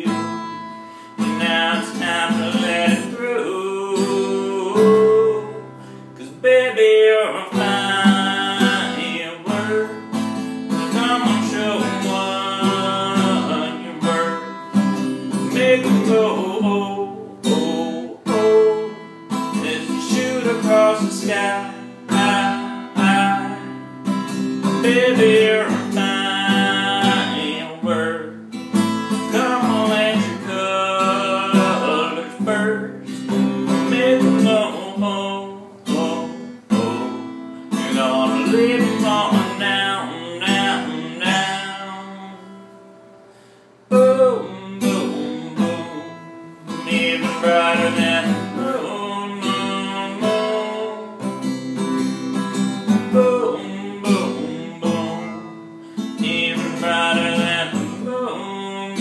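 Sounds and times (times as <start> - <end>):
person singing: 0.0 - 42.7, 43.9 - 59.0
acoustic guitar strumming: 0.0 - 59.0.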